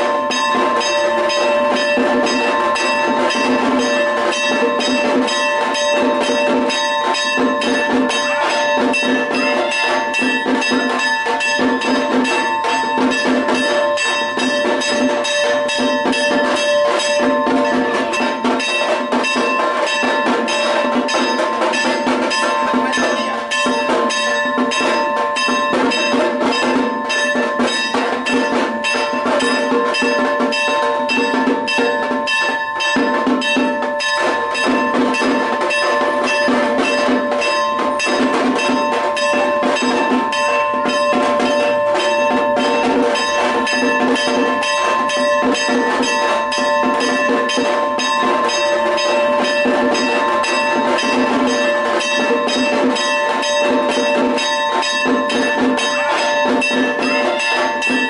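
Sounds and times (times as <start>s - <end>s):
bells ringing: 0.0s - 58.0s
fast dense drumming: 0.0s - 58.0s
steady held tones: 0.0s - 58.0s.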